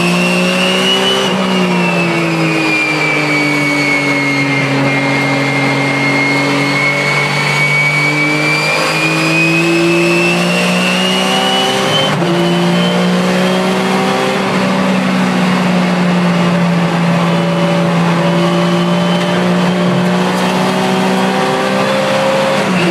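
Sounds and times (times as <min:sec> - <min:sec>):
car engine accelerating: 0:00.0 - 0:22.9.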